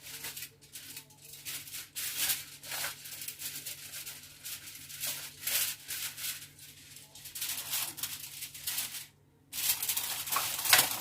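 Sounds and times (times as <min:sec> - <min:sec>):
wrapping sheet crinkling and rustling: 0:00.0 - 0:11.0.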